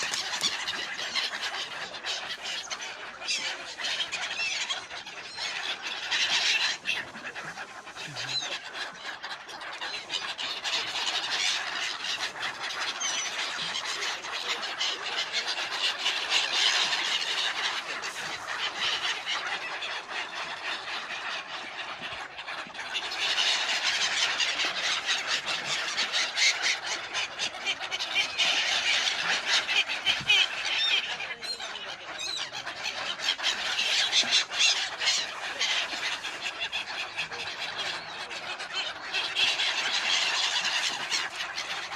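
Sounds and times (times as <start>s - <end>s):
flock of birds squealing: 0.0s - 41.9s.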